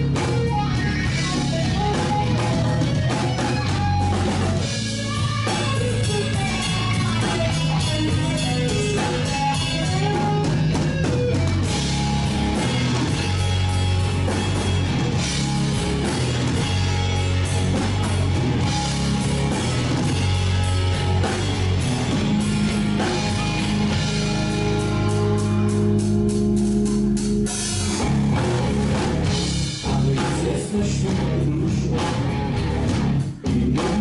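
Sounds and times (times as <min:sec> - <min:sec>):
bass guitar: 0:00.0 - 0:34.0
drum kit: 0:00.0 - 0:34.0
electric guitar: 0:00.0 - 0:34.0.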